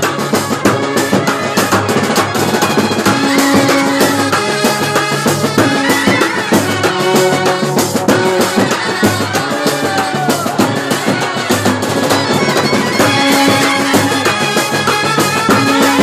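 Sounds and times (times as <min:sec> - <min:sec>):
drums beating fast: 0:00.0 - 0:16.0
trumpets and clarinets melody: 0:00.0 - 0:16.0.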